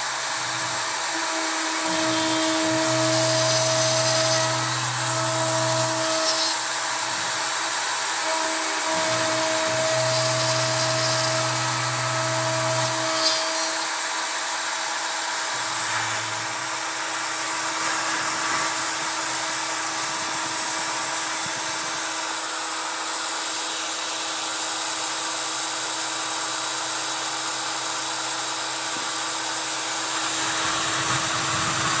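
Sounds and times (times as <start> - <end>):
axis motors humming: 0.0 - 32.0
router spindle whining: 0.0 - 32.0.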